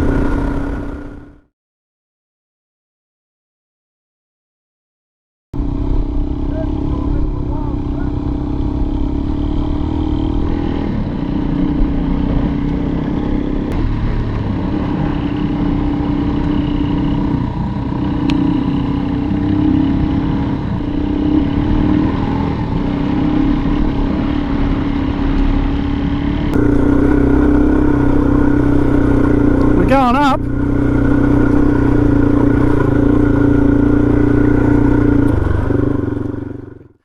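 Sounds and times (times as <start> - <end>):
motorcycle engine running: 0.0 - 1.4, 5.6 - 37.0.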